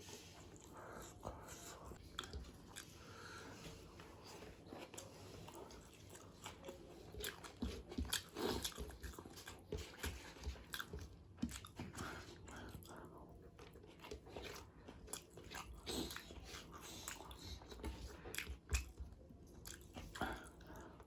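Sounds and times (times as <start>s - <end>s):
close chewing with mouth clicks: 0.0s - 21.0s.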